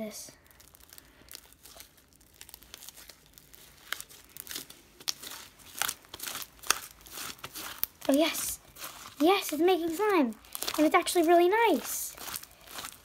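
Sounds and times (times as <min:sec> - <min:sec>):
slime squeezed by hand: 0:00.4 - 0:10.9
wet pops and crackles: 0:00.4 - 0:13.0.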